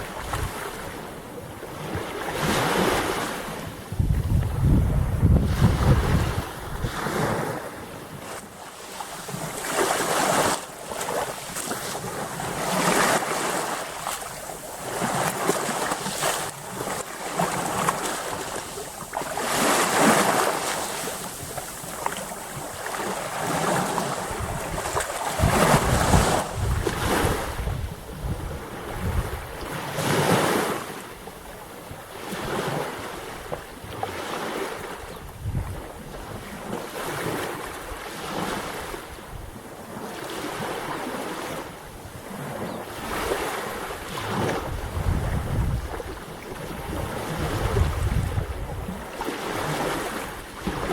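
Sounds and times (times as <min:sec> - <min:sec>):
waves breaking: 0:00.0 - 0:50.9.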